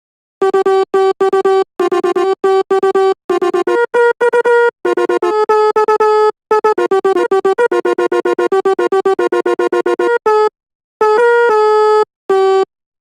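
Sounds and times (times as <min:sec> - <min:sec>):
multi-tone bus horn playing a tune: 0:00.4 - 0:12.7.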